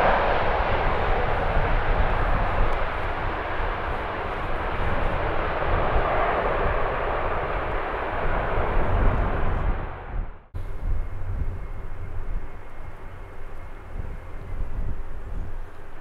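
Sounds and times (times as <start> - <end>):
jet engines running: 0.0 - 16.0
wind buffeting microphone: 0.0 - 16.0.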